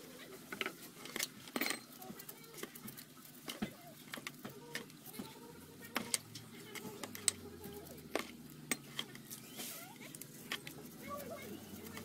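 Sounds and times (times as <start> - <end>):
metal parts washed in basin: 0.0 - 12.0.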